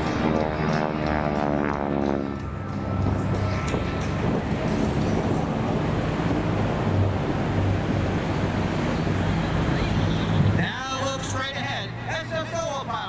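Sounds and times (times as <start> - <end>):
wind rumble on microphone: 0.0 - 10.7
propeller plane engine droning: 0.0 - 13.0.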